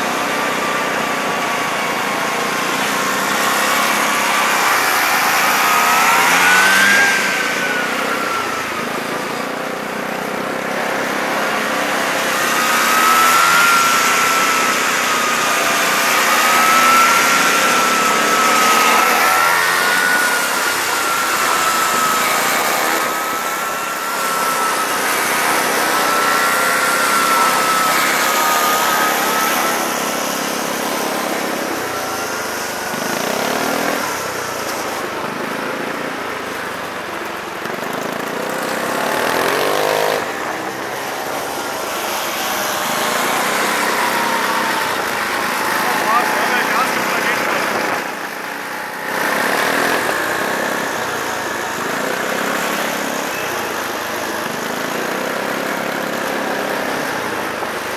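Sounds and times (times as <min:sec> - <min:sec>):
high whine: 0:00.0 - 0:57.9
motorcycle engines revving: 0:00.0 - 0:57.9
motorcycles passing: 0:00.0 - 0:57.9.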